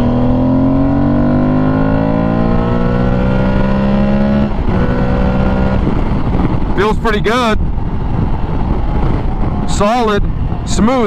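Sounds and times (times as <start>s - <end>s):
motorcycle engine accelerating: 0.0s - 10.8s.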